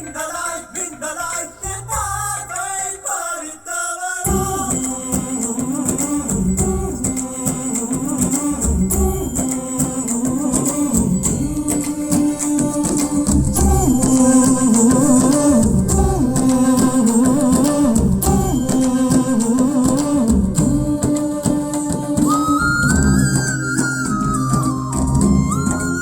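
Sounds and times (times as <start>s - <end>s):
person singing: 0.0s - 26.0s
bass and drums: 4.3s - 26.0s
hand percussion: 4.3s - 26.0s.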